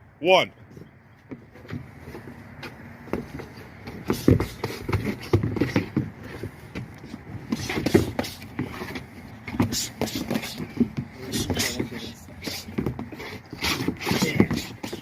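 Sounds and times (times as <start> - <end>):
feet shuffling and scuffing: 0.7 - 15.0.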